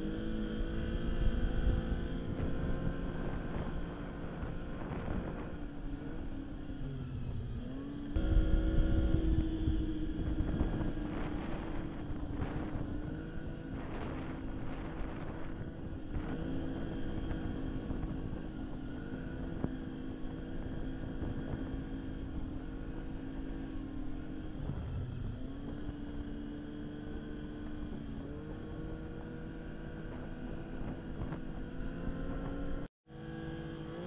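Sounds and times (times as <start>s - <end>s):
snowmobile engine running: 0.0s - 34.0s
track and wind noise: 0.0s - 34.0s.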